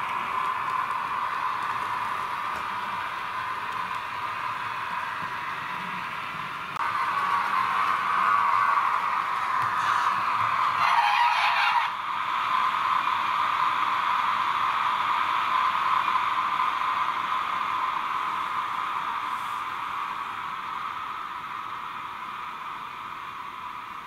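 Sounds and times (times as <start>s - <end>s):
model train running sound: 0.0s - 24.0s.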